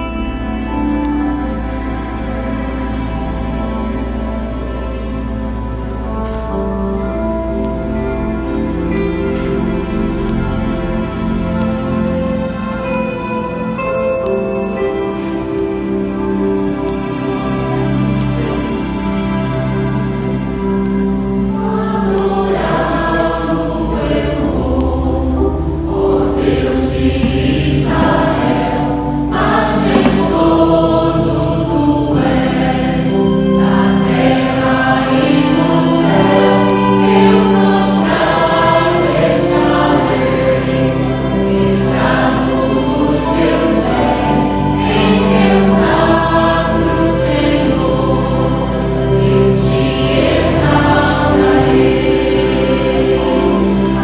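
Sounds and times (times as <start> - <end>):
instrumental accompaniment: 0.0 - 54.0
vocal group singing in harmony: 0.0 - 54.0.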